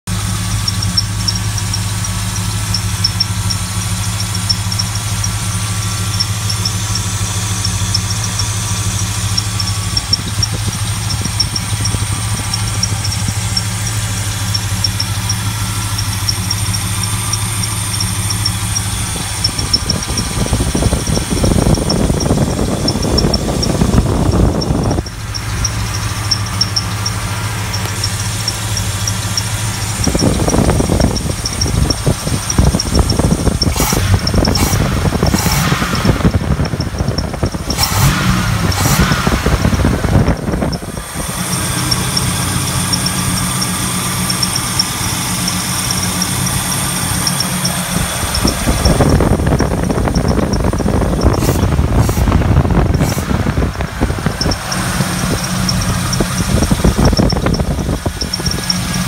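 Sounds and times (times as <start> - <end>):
engine idling: 0.0 - 59.0
fast high-pitched ticking: 0.5 - 59.0.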